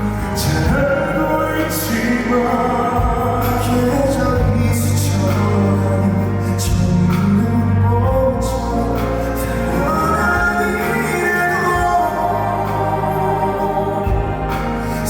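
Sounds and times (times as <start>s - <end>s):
live band playing slow ballad: 0.0s - 15.0s
person singing: 0.0s - 15.0s.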